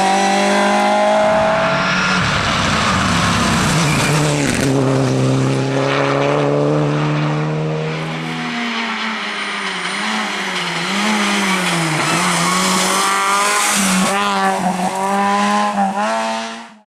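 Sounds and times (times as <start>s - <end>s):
rally car engine revving: 0.0s - 16.8s.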